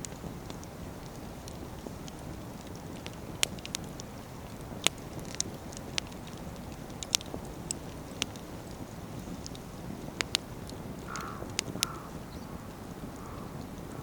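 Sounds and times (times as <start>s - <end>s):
fire crackles and sharp pops: 0.0s - 14.0s
wood fire flame noise: 0.0s - 14.0s.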